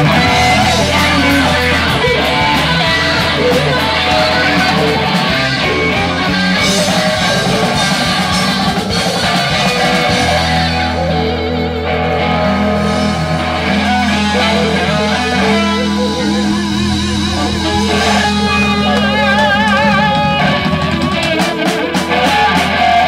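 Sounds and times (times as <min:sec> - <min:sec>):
blues rock band playing: 0:00.0 - 0:23.0.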